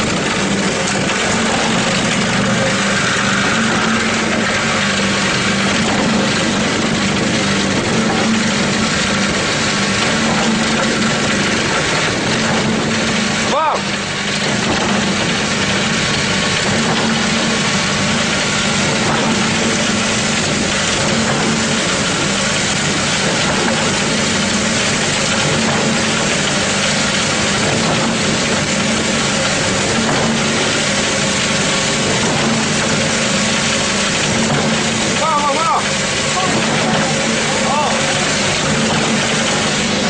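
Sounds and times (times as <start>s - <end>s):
concrete pump drone: 0.0s - 40.0s.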